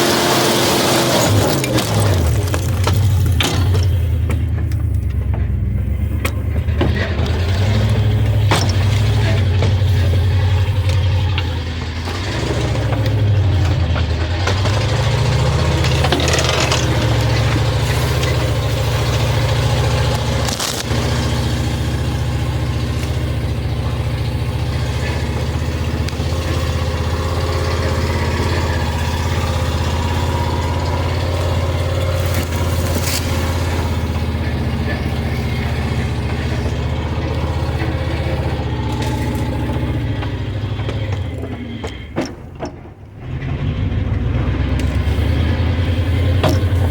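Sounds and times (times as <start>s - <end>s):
truck engine droning: 0.0s - 46.9s.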